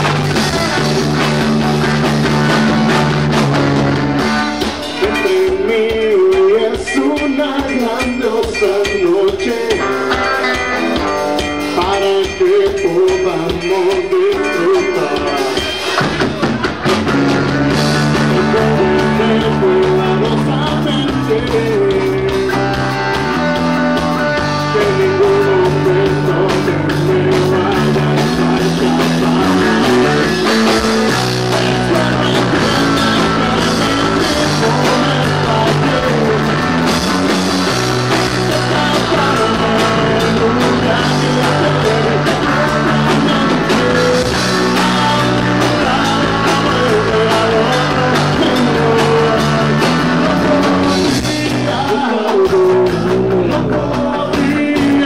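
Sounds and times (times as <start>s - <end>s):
drum kit: 0.0s - 55.0s
electric guitars: 0.0s - 55.0s
man singing: 4.5s - 16.1s, 17.7s - 55.0s.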